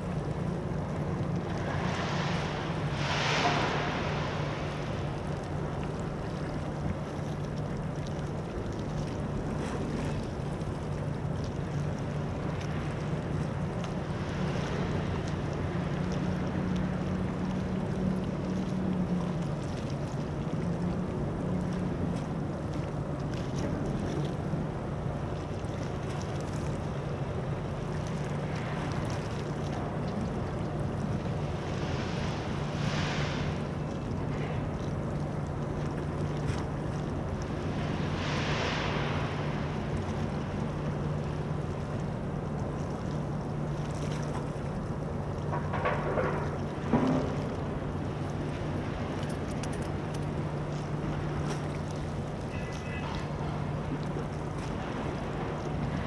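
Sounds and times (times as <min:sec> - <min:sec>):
ship diesel engine drone: 0:00.0 - 0:56.0
waves: 0:00.0 - 0:56.0.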